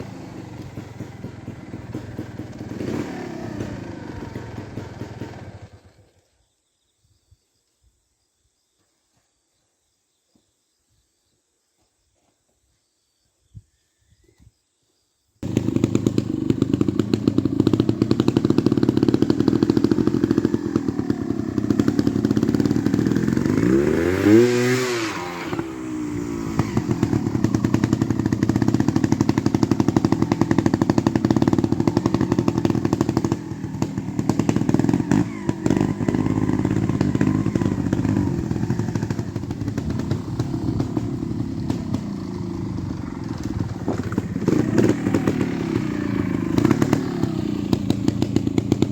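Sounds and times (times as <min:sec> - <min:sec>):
motorcycle engine running: 0:00.0 - 0:06.1, 0:15.4 - 0:48.9.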